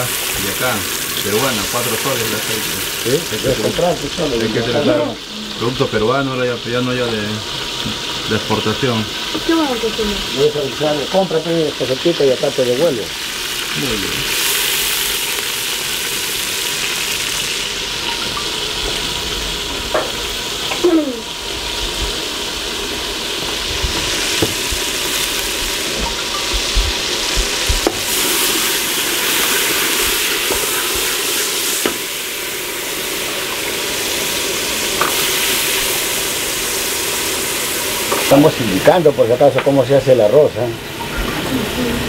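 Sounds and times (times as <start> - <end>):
food sizzling in oil: 0.0 - 42.0.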